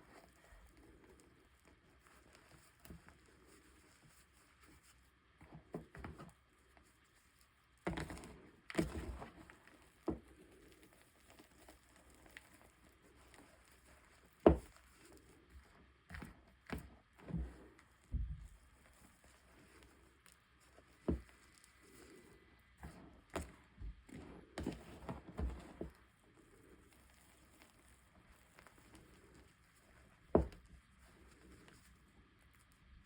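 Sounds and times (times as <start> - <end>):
chalk crackling and crumbling: 0.0 - 33.0.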